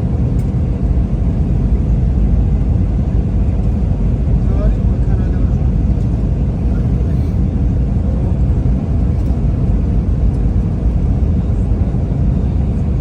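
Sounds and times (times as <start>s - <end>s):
airliner engine rumble in cabin: 0.0s - 13.0s.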